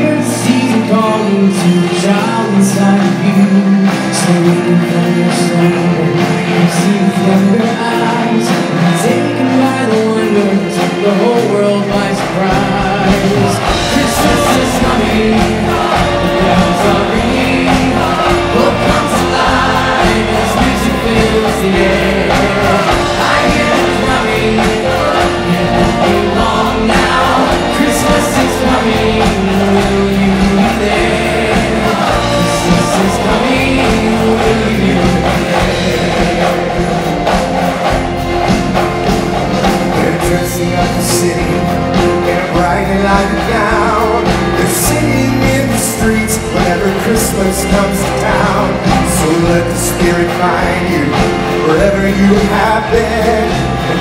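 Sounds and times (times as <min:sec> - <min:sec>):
band playing: 0:00.0 - 0:54.0
choir singing: 0:00.0 - 0:54.0
men singing lead: 0:00.0 - 0:54.0.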